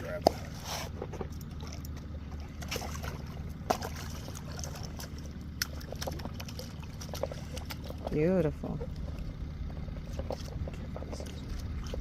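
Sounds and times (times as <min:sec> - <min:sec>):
steady low hum: 0:00.0 - 0:12.0
water trickling and splashing: 0:00.0 - 0:12.0.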